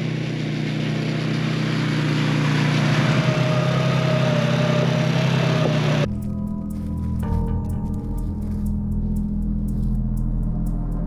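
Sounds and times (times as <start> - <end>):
engine-like mechanical hum: 0.0 - 11.0.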